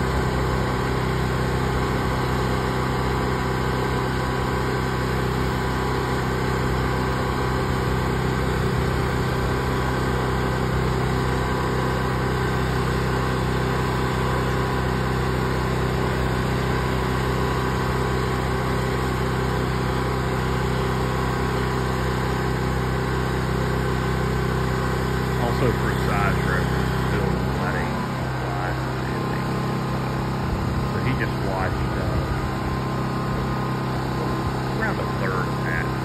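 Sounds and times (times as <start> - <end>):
pressure washer engine running: 0.0 - 36.0.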